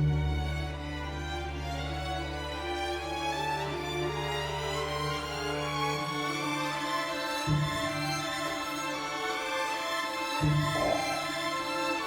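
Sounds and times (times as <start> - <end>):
slow string music: 0.0 - 12.0.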